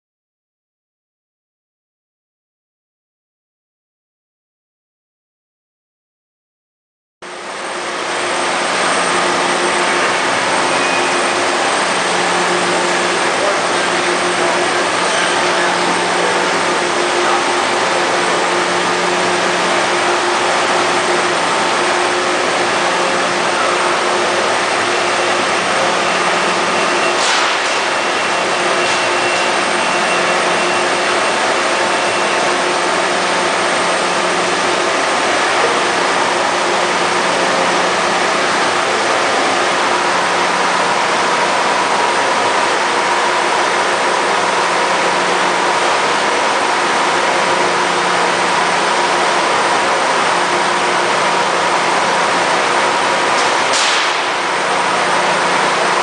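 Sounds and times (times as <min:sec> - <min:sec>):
milling machine hum and hiss: 0:07.3 - 0:56.0.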